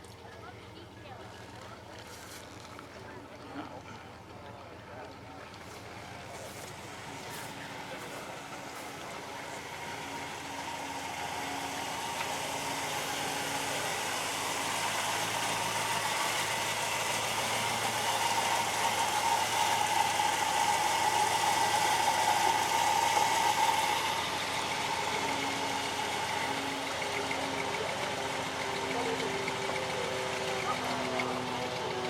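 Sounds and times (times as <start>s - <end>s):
car engine running: 5.1s - 32.0s.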